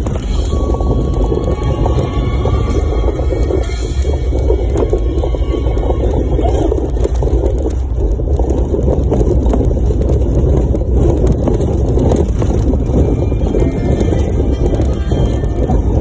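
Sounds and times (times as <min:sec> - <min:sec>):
vehicle rumble in motion: 0:00.0 - 0:16.0
wind buffeting microphone: 0:00.0 - 0:16.0.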